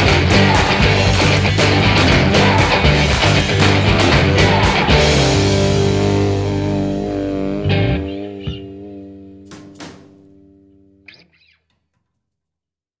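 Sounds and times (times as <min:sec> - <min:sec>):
electric guitar chord ringing: 0:00.0 - 0:11.3.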